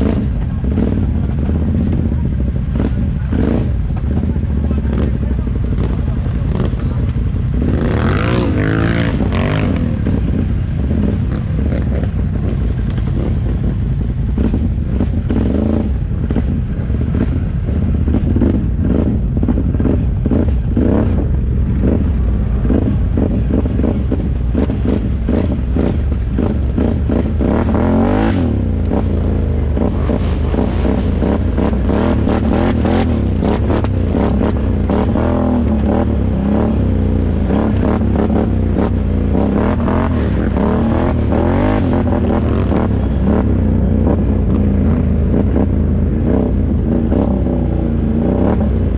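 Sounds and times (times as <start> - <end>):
atv engine revving: 0.0 - 48.9
vehicle rattling over rough ground: 0.0 - 48.9.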